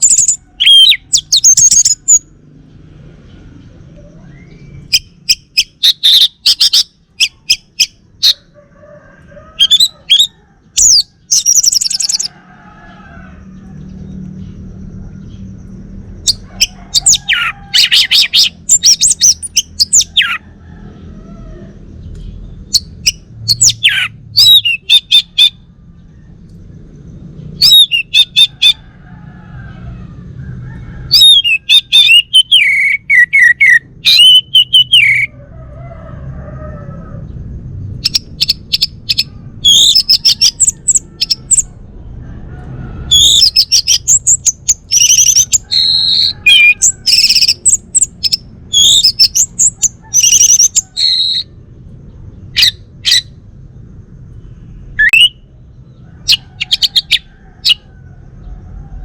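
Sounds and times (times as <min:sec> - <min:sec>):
low background rumble: 0:09.2 - 0:59.0.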